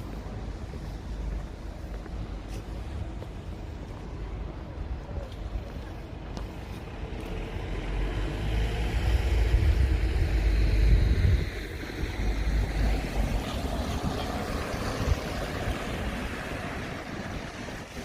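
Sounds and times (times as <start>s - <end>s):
outdoor street noise: 0.0s - 18.0s
wind buffeting microphone: 0.0s - 18.0s.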